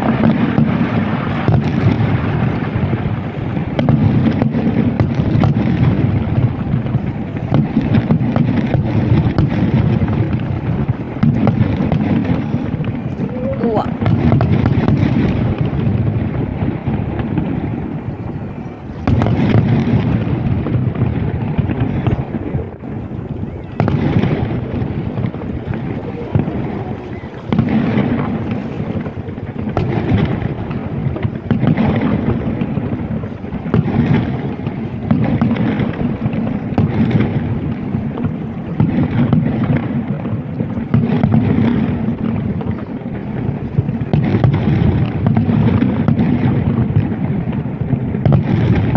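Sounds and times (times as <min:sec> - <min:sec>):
fireworks booming: 0:00.0 - 0:48.9.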